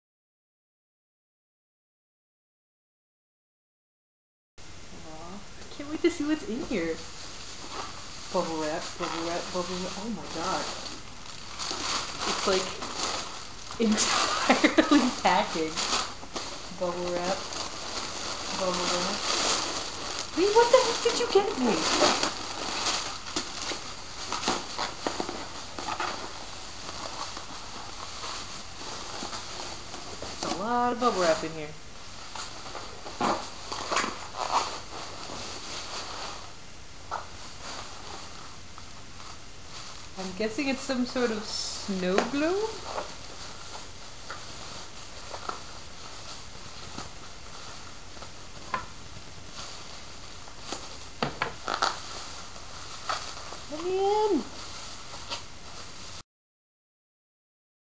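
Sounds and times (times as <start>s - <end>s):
bubble wrap crinkling: 4.7s - 56.2s
plastic crackles: 5.4s - 56.2s.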